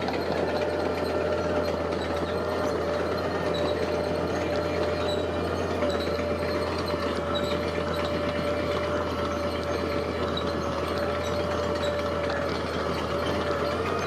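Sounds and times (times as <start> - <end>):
constant whine: 0.0 - 14.0
diesel machinery engine hum: 0.0 - 14.0.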